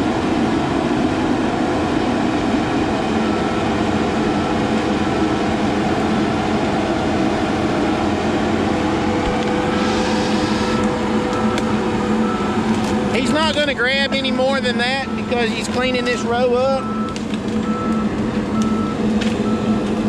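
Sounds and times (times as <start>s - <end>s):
diesel machinery engine drone: 0.0s - 20.0s
skidder pulling logs: 0.0s - 20.0s.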